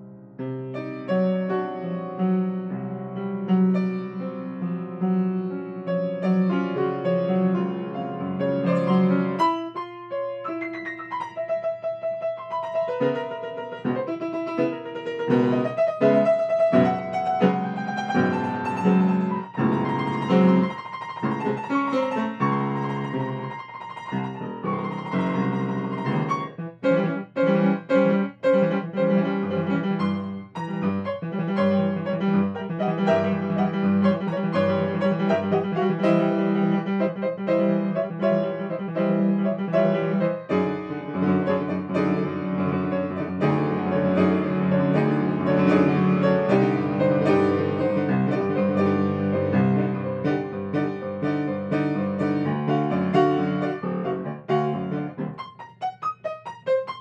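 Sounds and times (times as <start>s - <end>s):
improvised grand piano: 0.0s - 57.0s.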